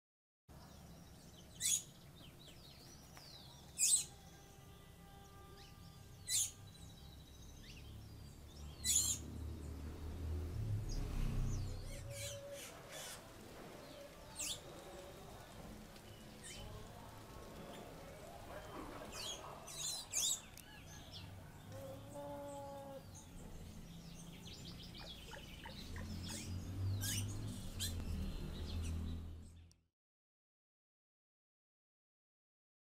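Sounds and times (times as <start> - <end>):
birds chirping and calling: 0.6 - 4.6, 5.5 - 10.1, 10.8 - 29.6.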